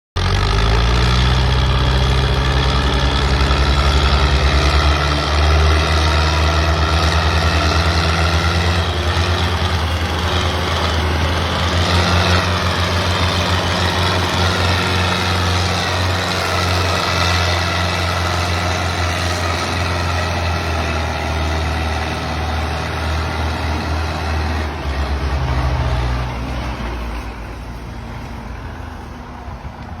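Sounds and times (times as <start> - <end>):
tractor engine running: 0.2 - 30.0.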